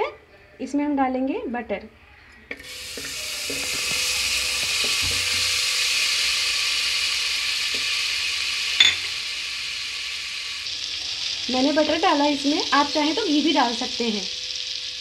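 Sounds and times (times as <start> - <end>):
butter sizzling in pot: 2.5 - 15.0.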